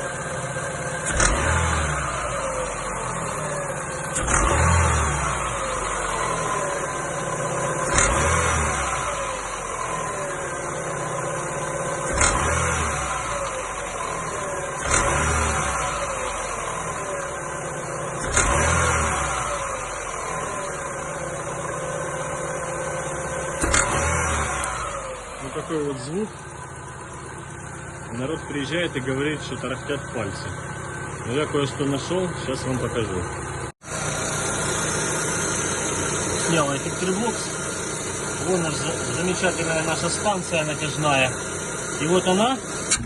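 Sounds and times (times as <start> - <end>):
car engine revving from idle: 0.0 - 43.0.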